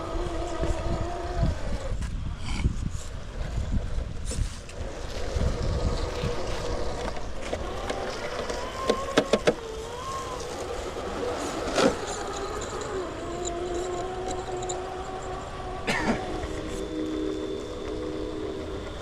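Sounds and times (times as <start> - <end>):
electric motor and gearbox whining: 0.0 - 2.4, 3.1 - 19.0.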